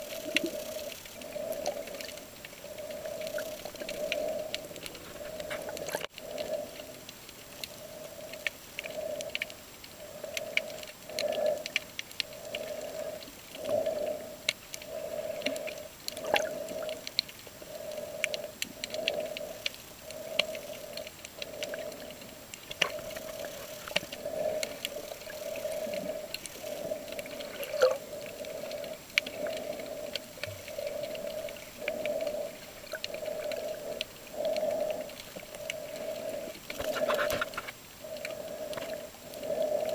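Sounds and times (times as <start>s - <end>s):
pulsing underwater hum: 0.0s - 39.9s
underwater clicks and crackles: 0.0s - 39.9s.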